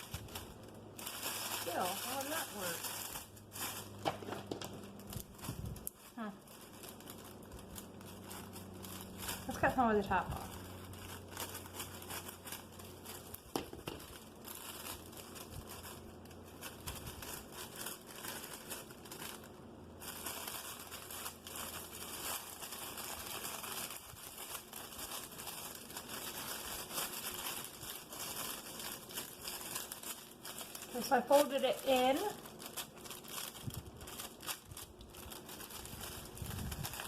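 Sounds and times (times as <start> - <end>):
plastic sleeve crinkling: 0.0 - 37.0.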